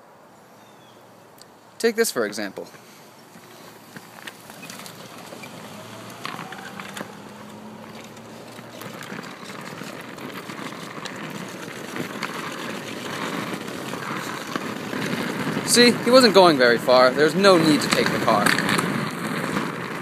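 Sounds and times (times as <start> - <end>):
small wheels rolling on asphalt: 0.6 - 20.0.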